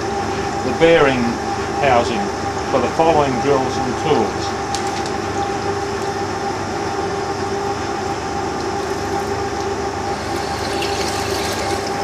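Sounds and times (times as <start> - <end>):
lathe machine hum: 0.0 - 12.0.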